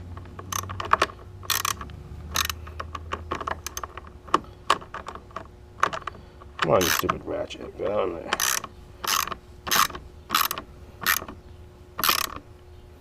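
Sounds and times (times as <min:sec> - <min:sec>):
socket ratchet clicking: 0:00.1 - 0:07.2, 0:08.3 - 0:11.4, 0:12.0 - 0:12.5.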